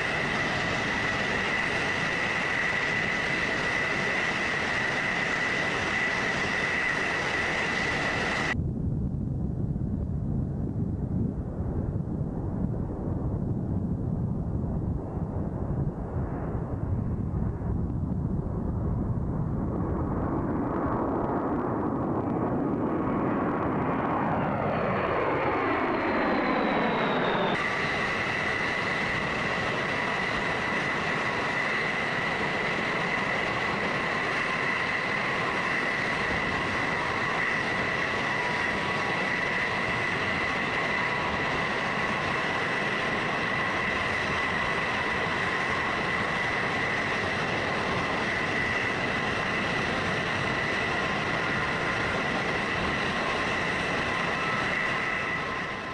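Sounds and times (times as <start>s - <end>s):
jet aircraft passing: 0.0s - 55.9s
jet engine whine: 0.0s - 55.9s.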